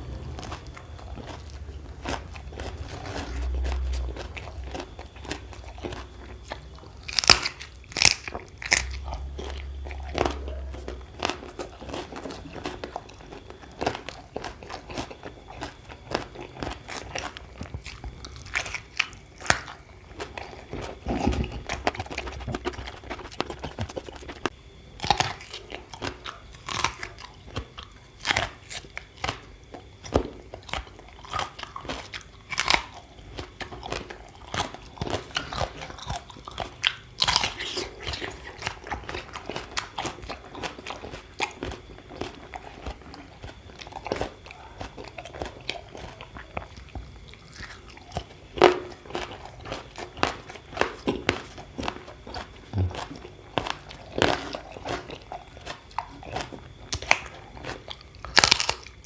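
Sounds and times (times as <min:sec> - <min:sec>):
person crunching food: 0:00.0 - 0:59.0
wet chewing: 0:00.0 - 0:59.0.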